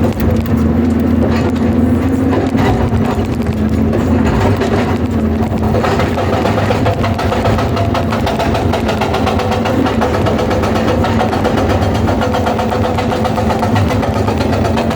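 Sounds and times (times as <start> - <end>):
excavator engine running: 0.0 - 14.9
hydraulic breaker hammering stone: 0.0 - 14.9.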